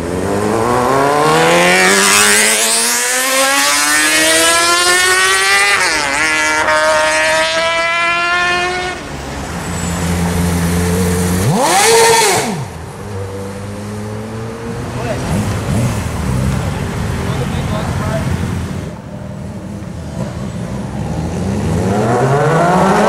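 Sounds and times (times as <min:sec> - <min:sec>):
motorcycle accelerating hard: 0:00.0 - 0:09.0, 0:10.1 - 0:19.0, 0:19.6 - 0:23.0
motorcycle engine revving: 0:00.0 - 0:09.0, 0:10.0 - 0:23.0.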